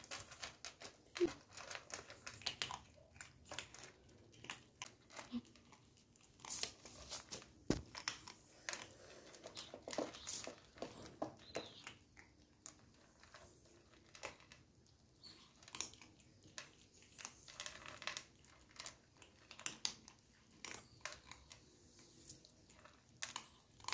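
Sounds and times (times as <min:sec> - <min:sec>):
kittens crunching dry kibble: 0:00.0 - 0:23.9.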